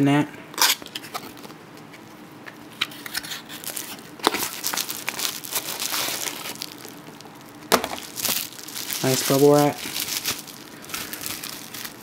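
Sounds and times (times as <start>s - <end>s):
packing crinkling: 0.6s - 2.0s, 2.8s - 12.0s.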